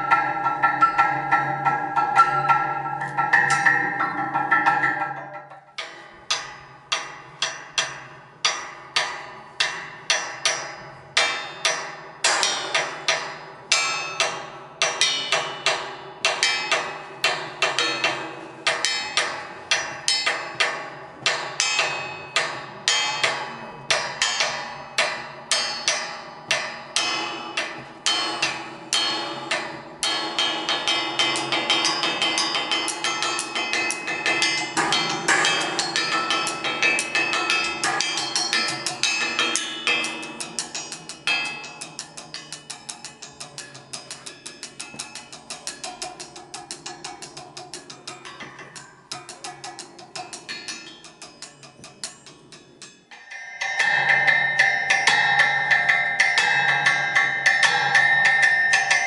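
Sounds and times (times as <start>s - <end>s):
mallets striking metal bars: 0.0s - 59.0s.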